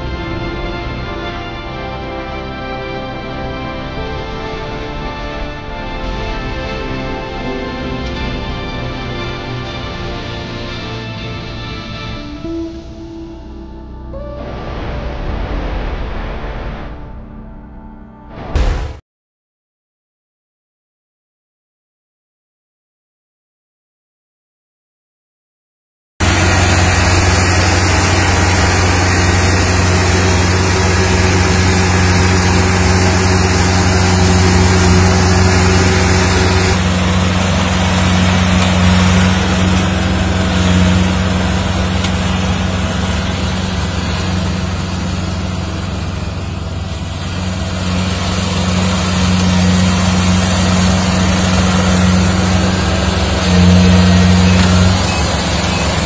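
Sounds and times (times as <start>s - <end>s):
diesel engine humming: 0.0s - 15.5s, 26.2s - 56.0s.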